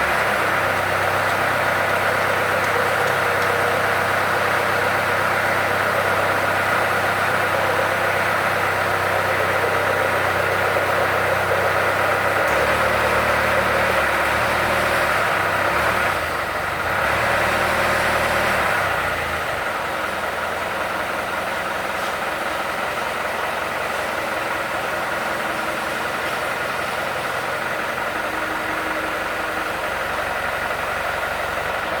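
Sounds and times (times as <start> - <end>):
drilling machine engine humming: 0.0 - 32.0.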